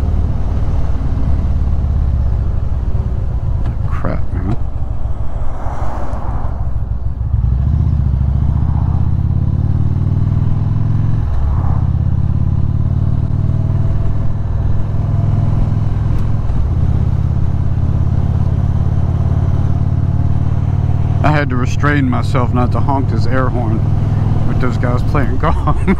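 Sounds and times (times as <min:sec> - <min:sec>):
motorcycle engine accelerating: 0:00.0 - 0:05.4, 0:06.3 - 0:25.9.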